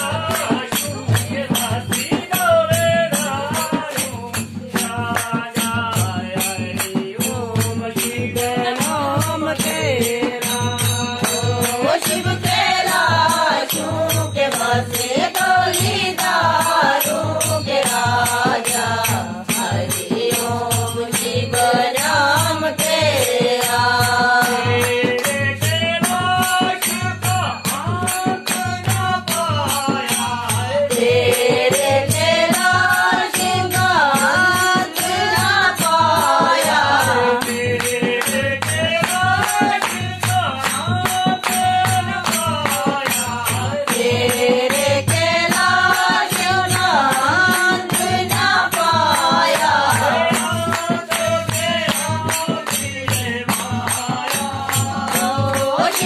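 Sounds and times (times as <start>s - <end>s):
steady percussion beat: 0.0s - 56.0s
voices singing folk song: 0.0s - 56.0s.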